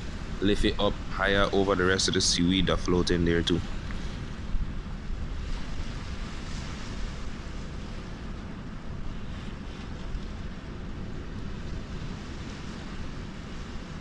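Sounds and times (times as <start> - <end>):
small waves washing onto sand: 0.0 - 14.0
wind on microphone: 0.0 - 14.0.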